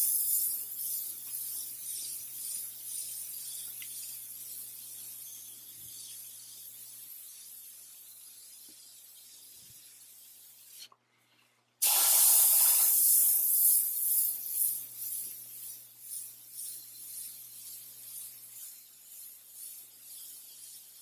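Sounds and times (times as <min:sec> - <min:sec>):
airbrush spraying hiss: 0:00.0 - 0:10.9, 0:11.8 - 0:21.0.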